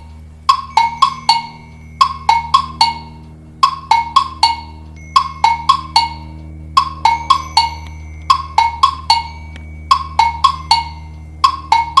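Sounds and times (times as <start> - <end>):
low drone: 0.0 - 12.0
ringtone struck notes: 0.0 - 12.0.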